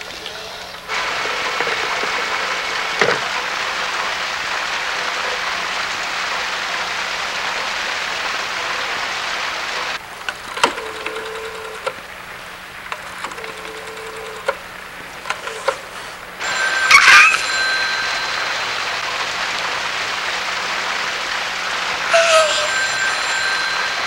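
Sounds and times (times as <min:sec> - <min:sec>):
steady hiss: 0:00.0 - 0:10.6, 0:14.6 - 0:24.0.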